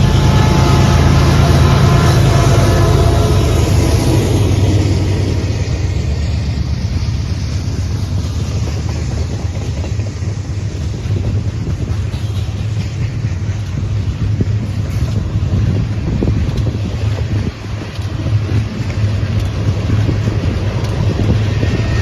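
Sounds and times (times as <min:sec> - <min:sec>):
freight train rumbling past: 0:00.0 - 0:22.0
locomotive engine drone: 0:00.0 - 0:22.0
wind noise on microphone: 0:00.0 - 0:22.0.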